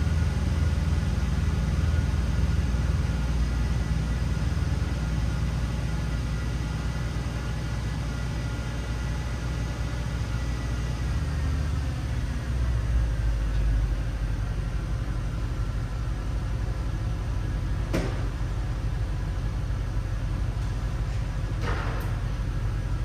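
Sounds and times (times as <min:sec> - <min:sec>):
car engine idling: 0:00.0 - 0:08.5, 0:09.8 - 0:23.0.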